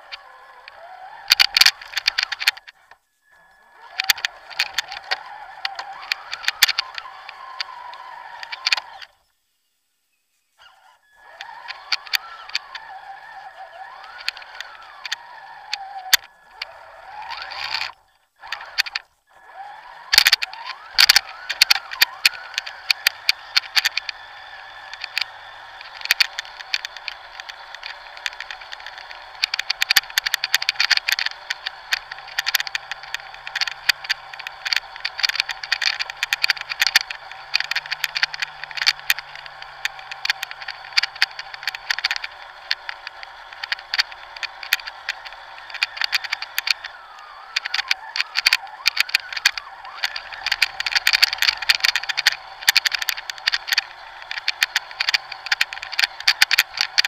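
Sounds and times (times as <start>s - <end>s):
chassis rattling: 0.0s - 9.2s, 11.2s - 57.0s
electric motor and gear whine: 0.0s - 57.0s
leaves crackling under tyres: 0.0s - 57.0s.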